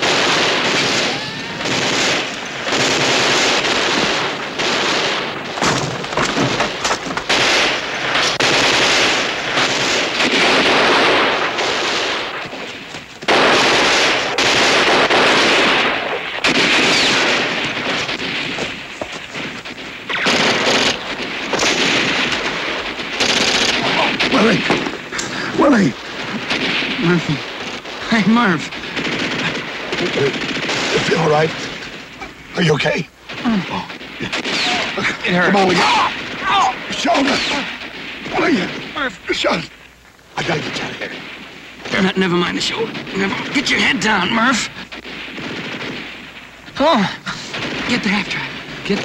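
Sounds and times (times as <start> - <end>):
machine-gun fire: 0.0 - 49.0.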